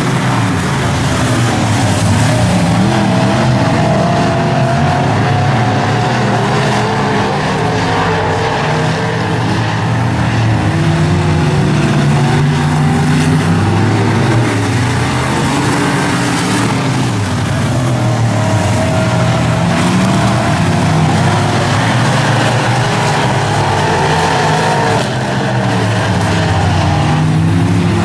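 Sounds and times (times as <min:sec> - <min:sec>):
race car engines racing: 0:00.0 - 0:28.0.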